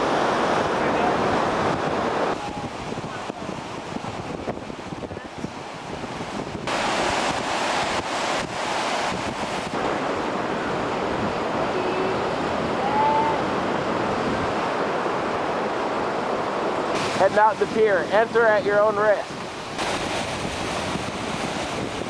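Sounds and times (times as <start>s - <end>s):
choppy waves: 0.0s - 22.0s
wind on microphone: 0.0s - 22.0s.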